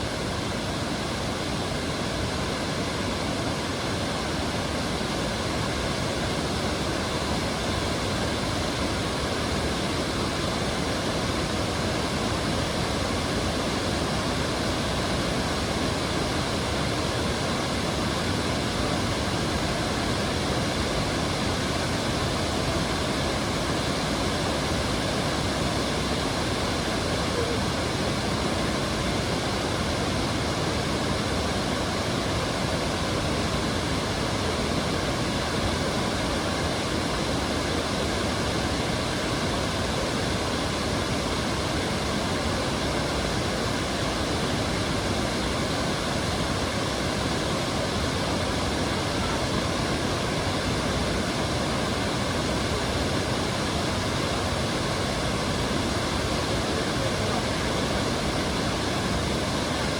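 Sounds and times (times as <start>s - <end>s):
waterfall pouring and splashing: 0.0s - 59.9s.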